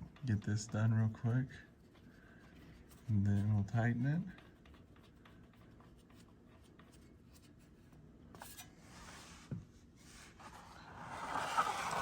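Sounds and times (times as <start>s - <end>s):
rubbing and scraping handling: 1.7s - 12.0s.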